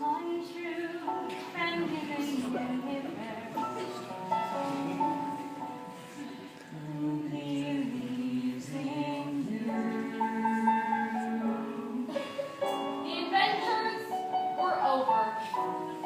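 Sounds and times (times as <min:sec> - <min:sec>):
musical theatre song: 0:00.0 - 0:16.0.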